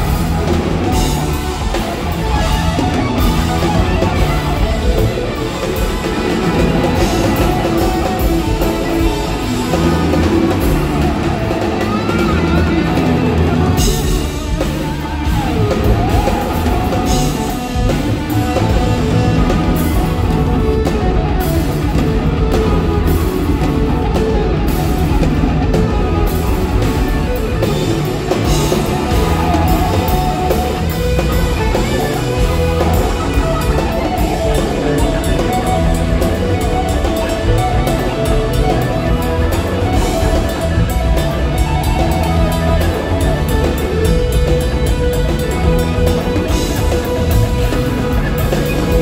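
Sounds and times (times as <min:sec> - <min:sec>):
bass guitar: 0:00.0 - 0:49.0
drum kit with cymbals: 0:00.0 - 0:49.0
electric guitars: 0:00.0 - 0:49.0.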